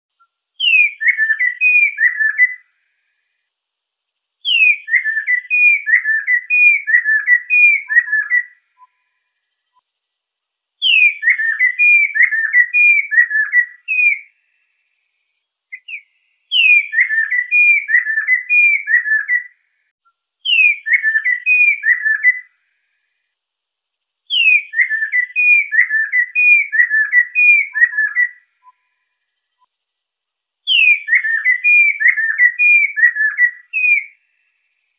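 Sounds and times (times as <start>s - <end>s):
bird singing whistled notes: 0.1s - 3.4s, 4.4s - 9.8s, 10.8s - 22.6s, 24.3s - 29.7s, 30.6s - 34.9s.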